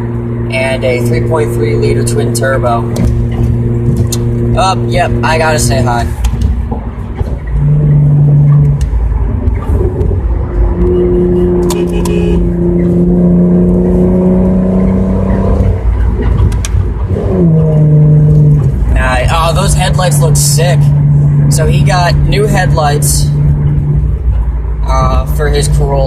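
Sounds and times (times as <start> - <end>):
car engine while driving: 0.0 - 26.0.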